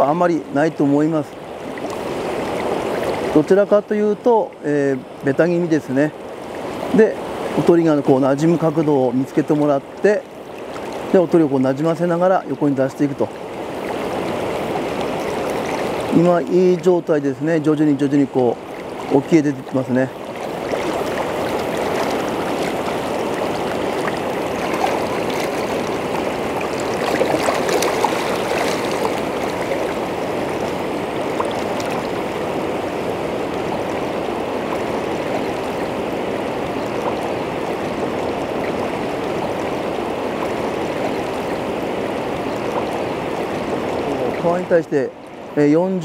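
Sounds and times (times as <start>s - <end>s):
river rushing over riffle: 0.0s - 46.0s.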